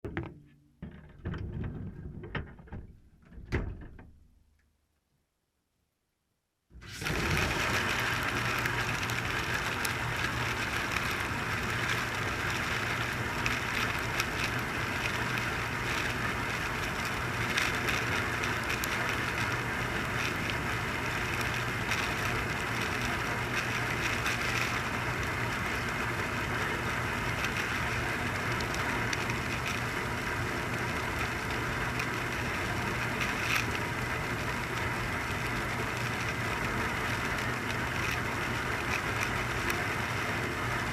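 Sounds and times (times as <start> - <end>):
dishwasher motor hum and hiss: 6.8 - 40.9.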